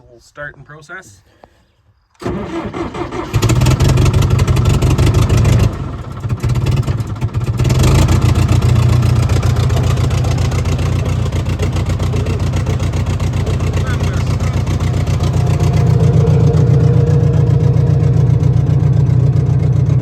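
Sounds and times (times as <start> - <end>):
loader engine running: 2.2 - 20.0.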